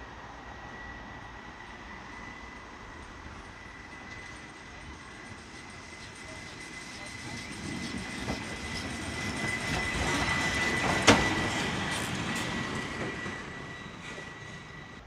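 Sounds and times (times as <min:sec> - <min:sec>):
steam locomotive rumbling past: 0:00.0 - 0:15.0.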